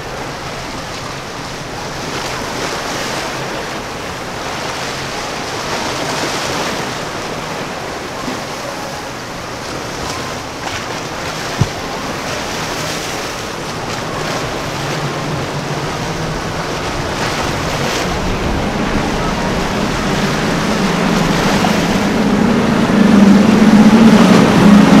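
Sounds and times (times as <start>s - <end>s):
choppy water: 0.0s - 25.0s
powerboat engines droning: 0.0s - 25.0s
wind buffeting microphone: 0.0s - 25.0s.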